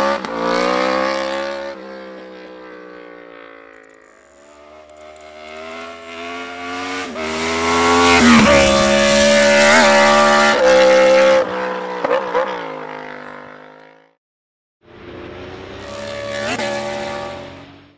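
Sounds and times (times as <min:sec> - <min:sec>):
motorcycle engine accelerating: 0:00.0 - 0:14.1, 0:14.8 - 0:17.9.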